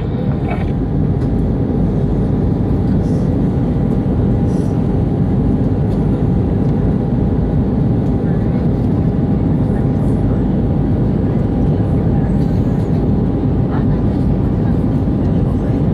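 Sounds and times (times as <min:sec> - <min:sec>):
airliner cabin drone: 0:00.0 - 0:15.9.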